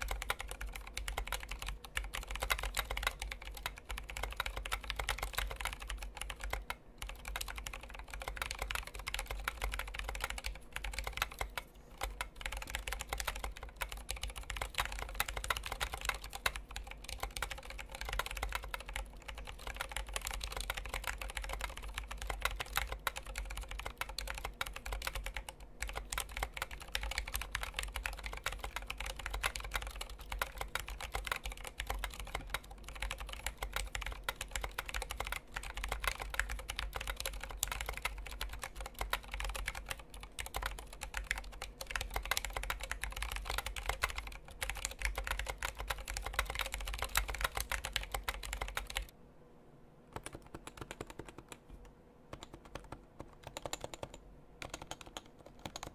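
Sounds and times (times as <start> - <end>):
mechanical keyboard typing: 0.0 - 49.1, 50.1 - 55.9.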